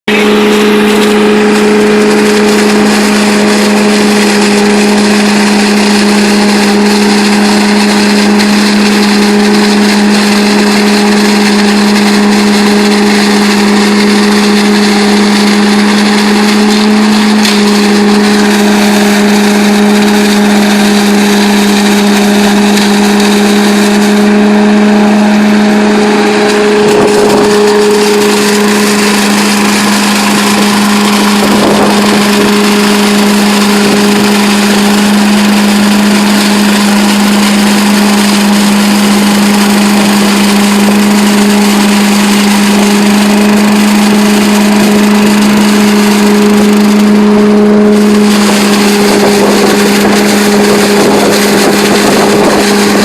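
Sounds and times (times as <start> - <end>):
leaf vacuum engine drone: 0.0 - 53.0.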